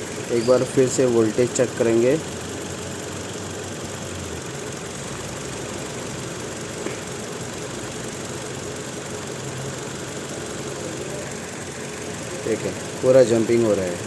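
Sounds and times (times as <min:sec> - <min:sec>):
car engine idling with misfire: 0:00.0 - 0:14.0.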